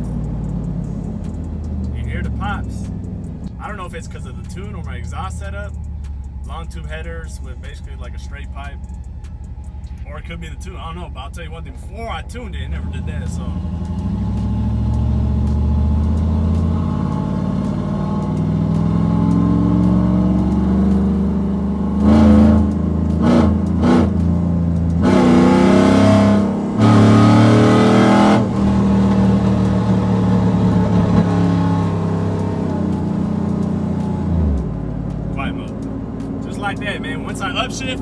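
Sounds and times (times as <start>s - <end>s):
vee eight engine revving: 0.0s - 38.0s.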